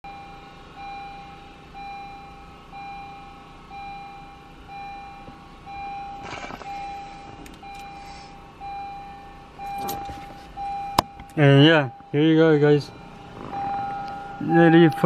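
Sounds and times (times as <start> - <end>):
car warning chime beeping: 0.0 - 15.0.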